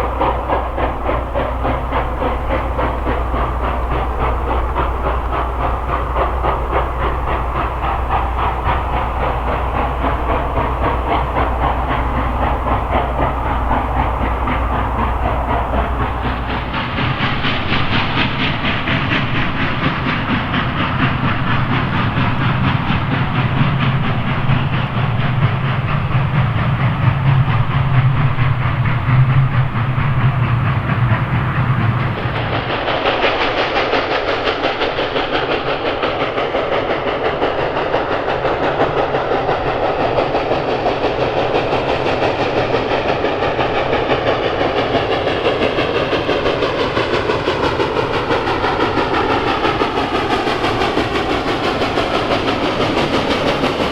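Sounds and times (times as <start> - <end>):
train running noise: 0.0 - 53.9
wheels clacking over rail joints: 0.0 - 53.9.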